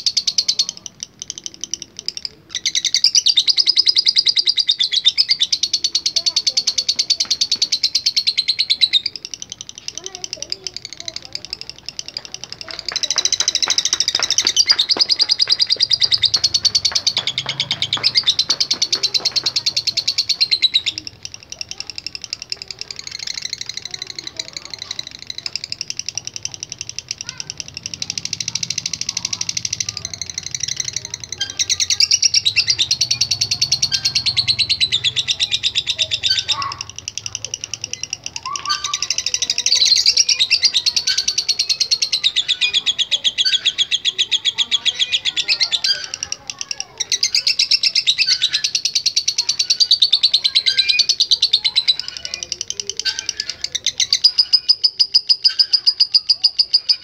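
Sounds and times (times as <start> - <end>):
lovebird fast chatter: 0.0 - 57.0.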